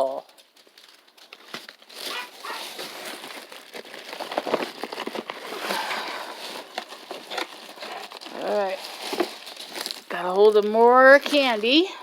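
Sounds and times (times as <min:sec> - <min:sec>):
paper crinkling and rustling: 0:00.3 - 0:11.8.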